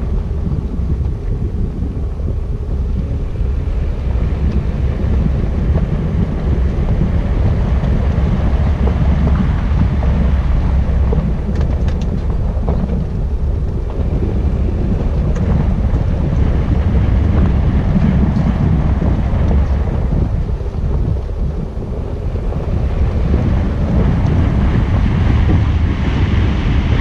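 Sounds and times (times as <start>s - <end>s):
vehicle rumble: 0.0s - 27.0s
wind buffeting microphone: 0.0s - 27.0s.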